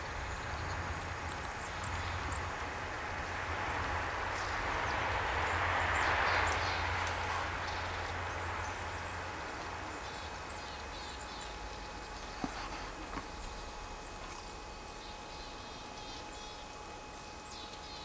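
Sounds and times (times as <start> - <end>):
small birds chirping: 0.0 - 2.9, 4.3 - 18.0
distant traffic: 0.0 - 18.0.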